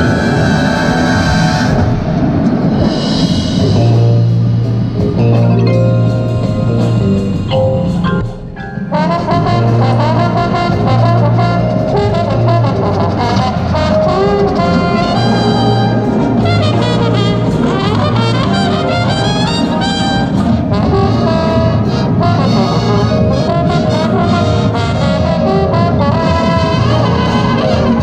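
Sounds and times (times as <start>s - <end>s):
brass line playing: 0.0s - 28.0s.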